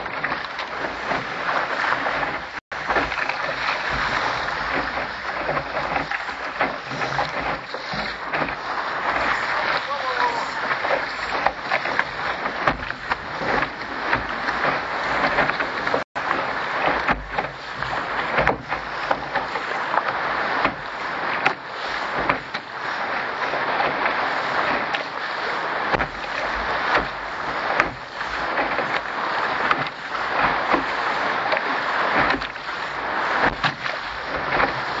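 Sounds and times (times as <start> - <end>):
water rushing along a boat hull: 0.0 - 35.0.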